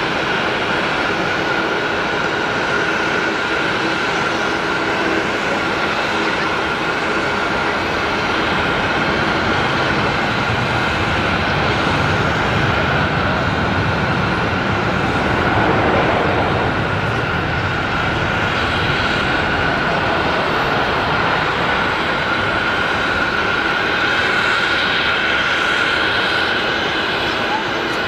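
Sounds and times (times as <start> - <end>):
jet engines whining on runway: 0.0 - 28.0.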